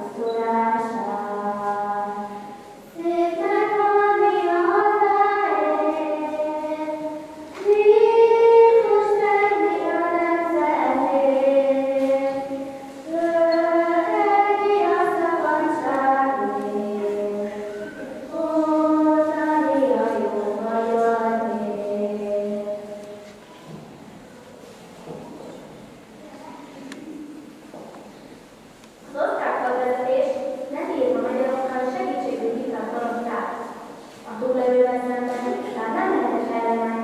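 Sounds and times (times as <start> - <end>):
children's choir singing: 0.0 - 28.1, 29.6 - 37.0.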